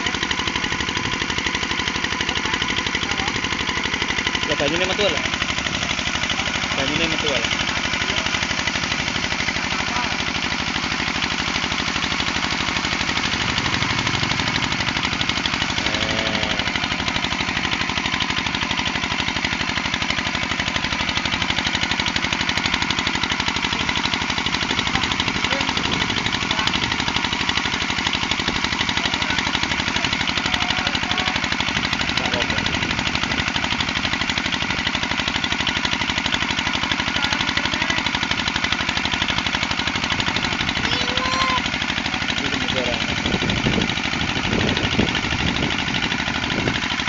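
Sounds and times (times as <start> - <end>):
diesel engine running: 0.0 - 47.0
water gushing from pump: 0.0 - 47.0.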